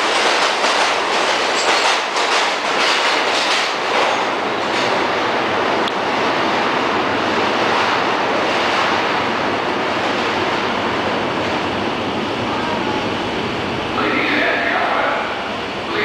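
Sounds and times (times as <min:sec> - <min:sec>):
subway train wheels on rail: 0:00.0 - 0:16.0.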